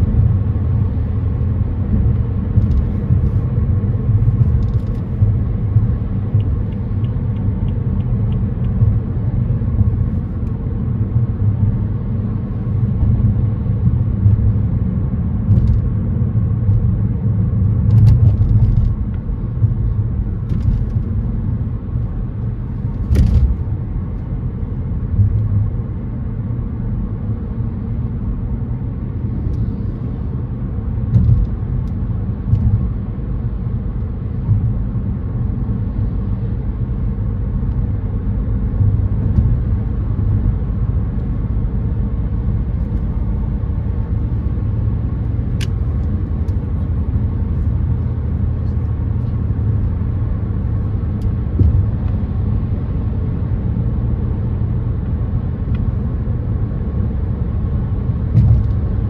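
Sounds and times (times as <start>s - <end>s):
car cabin road rumble: 0.0s - 59.0s.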